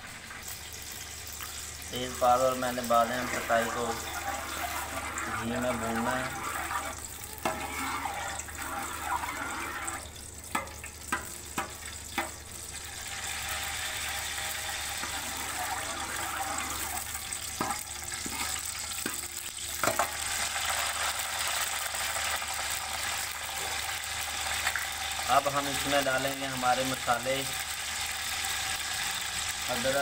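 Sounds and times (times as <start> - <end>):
spices sizzling in hot fat: 0.0 - 30.0.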